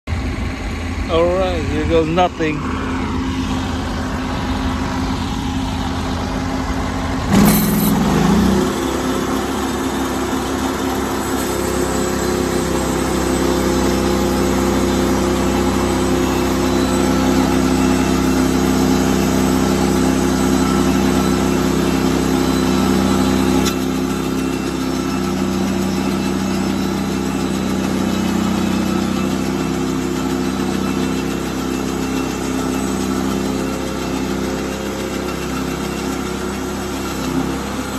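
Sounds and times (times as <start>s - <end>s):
bandsaw cutting a log: 7.3s - 37.9s.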